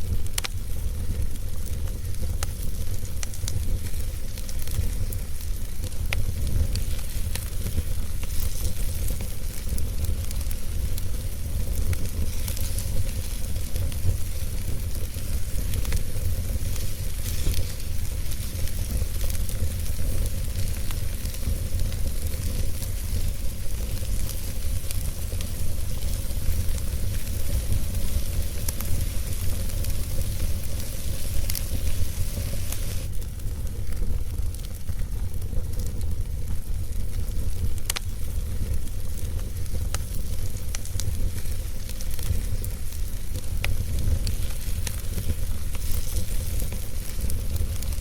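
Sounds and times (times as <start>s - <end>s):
wood fire hissing and crackling: 0.0s - 48.0s.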